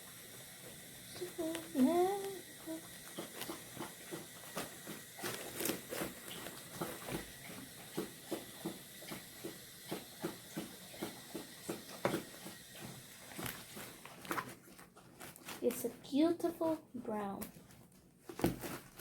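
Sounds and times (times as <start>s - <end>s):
slime squelching by hand: 1.1s - 19.0s.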